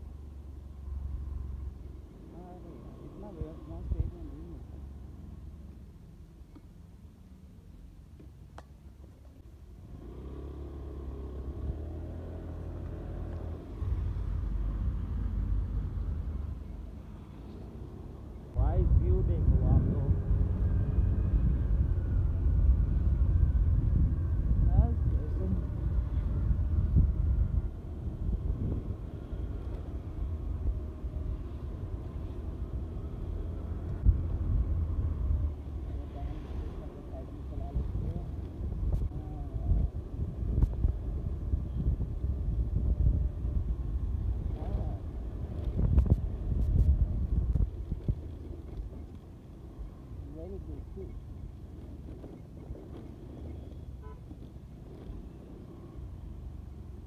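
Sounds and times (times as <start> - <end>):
road and wind rumble: 0.0 - 57.0.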